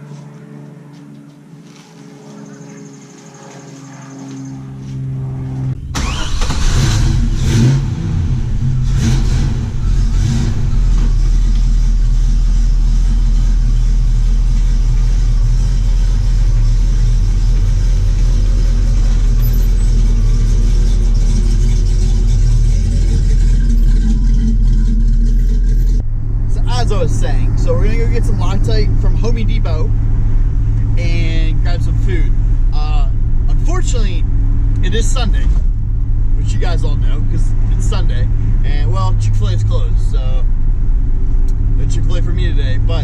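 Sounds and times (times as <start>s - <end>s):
car engine starting and revving: 5.4s - 43.0s.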